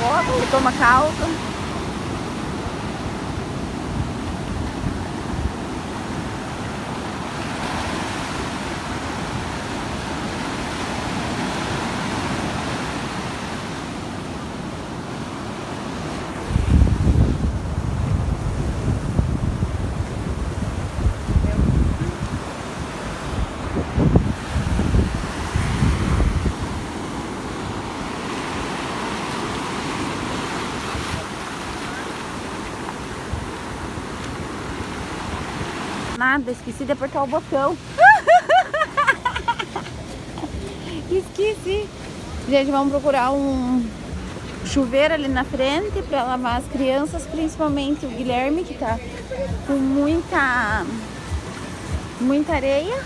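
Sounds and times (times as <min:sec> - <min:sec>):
wind buffeting microphone: 0:00.0 - 0:36.2, 0:37.4 - 0:53.0
ocean surf breaking: 0:00.0 - 0:53.0.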